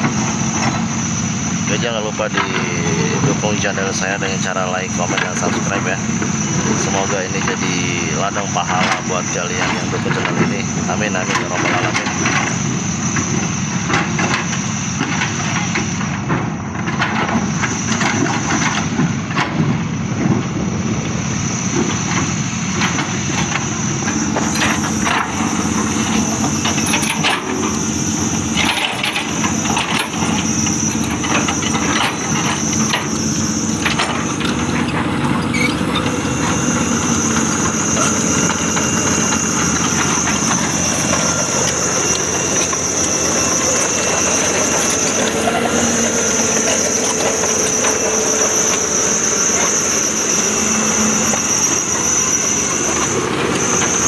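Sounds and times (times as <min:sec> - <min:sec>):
excavator diesel engine running: 0:00.0 - 0:54.0
high-pitched whine: 0:00.0 - 0:54.0.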